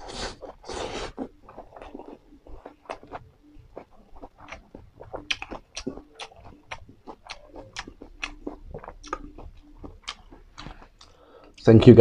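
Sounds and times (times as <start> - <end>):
wet chewing mouth smacks: 0.4 - 11.6.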